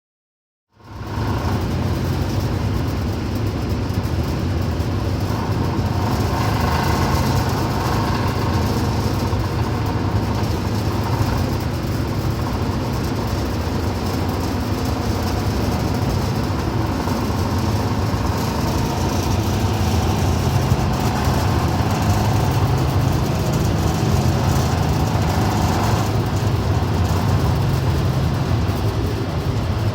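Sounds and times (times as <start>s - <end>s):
exhaust fan droning: 0.7s - 29.9s
air hissing: 5.5s - 29.9s.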